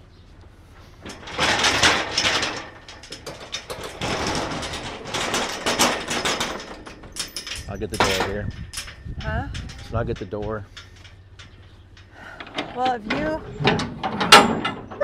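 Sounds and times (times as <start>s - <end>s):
metal gate rattling and scraping: 0.8s - 15.0s.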